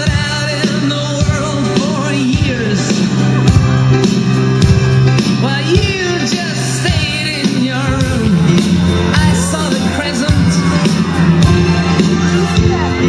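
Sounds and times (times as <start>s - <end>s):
person singing: 0.0s - 4.1s, 5.1s - 13.0s
bass line: 0.0s - 13.0s.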